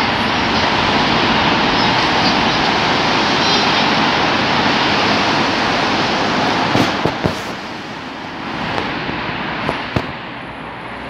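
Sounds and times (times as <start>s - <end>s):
train crossing steel bridge: 0.0s - 11.0s.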